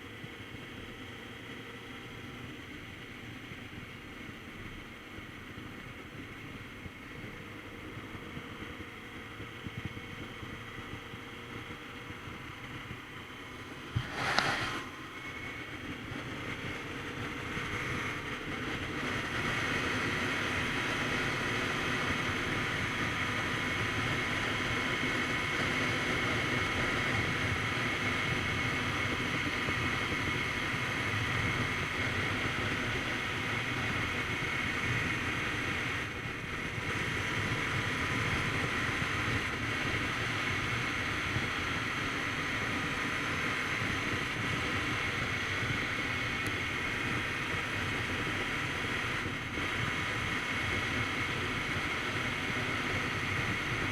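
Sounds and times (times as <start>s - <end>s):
motorcycle engine running: 0.0s - 53.9s
wind rushing over microphone: 6.6s - 53.9s.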